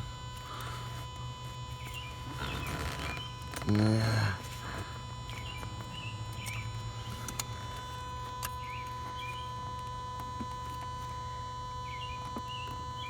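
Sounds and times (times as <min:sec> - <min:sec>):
steady low hum: 0:00.0 - 0:13.0
small birds chirping: 0:00.4 - 0:10.0, 0:11.6 - 0:13.0.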